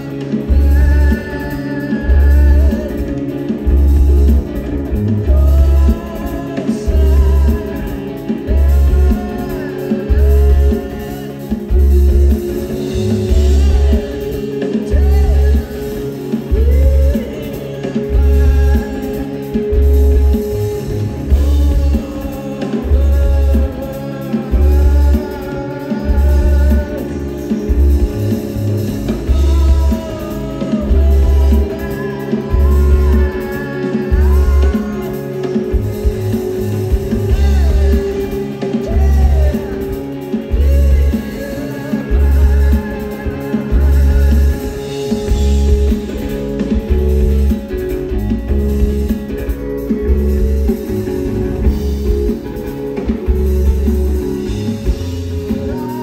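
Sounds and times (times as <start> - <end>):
person singing: 0.0 - 56.0
rock band playing live: 0.0 - 56.0.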